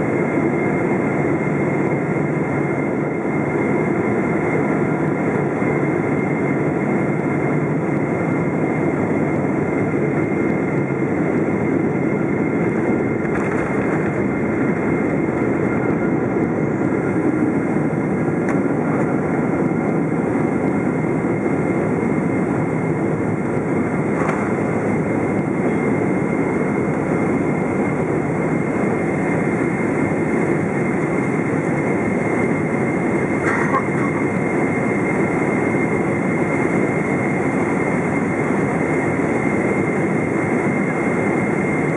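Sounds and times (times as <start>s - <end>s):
jet engine cabin roar: 0.0s - 41.9s.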